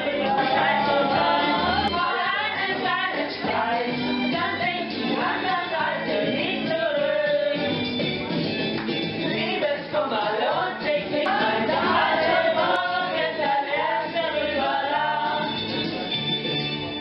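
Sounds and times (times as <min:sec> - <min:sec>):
group of people singing: 0:00.0 - 0:07.8, 0:09.3 - 0:15.8.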